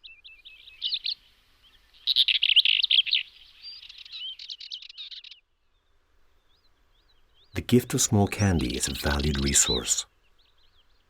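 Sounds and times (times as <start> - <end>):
songbird chirping and twittering: 0.0 - 11.0.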